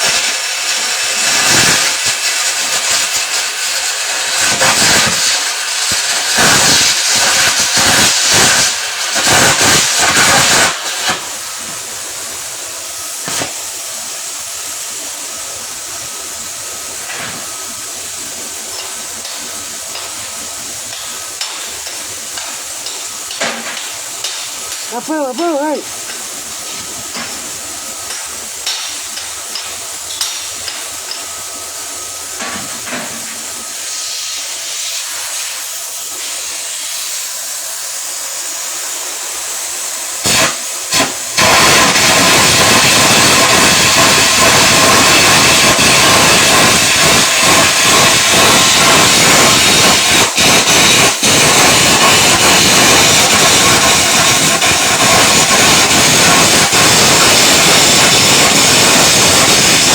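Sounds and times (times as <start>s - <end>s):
welding arc crackling hiss: 0.0s - 59.9s.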